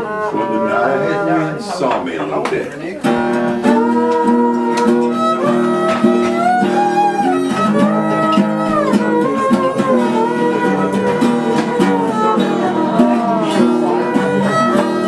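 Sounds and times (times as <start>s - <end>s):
fiddle bowed notes: 0.0s - 1.7s, 3.0s - 15.0s
strummed acoustic guitar: 0.0s - 15.0s.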